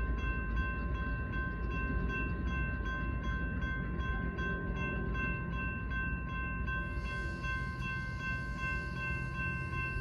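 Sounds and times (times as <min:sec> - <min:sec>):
crossing warning bell ringing: 0:00.0 - 0:10.0.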